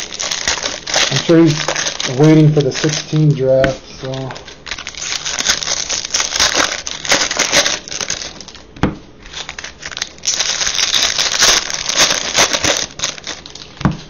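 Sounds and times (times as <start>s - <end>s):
plastic wrappers crinkling: 0.0s - 14.0s.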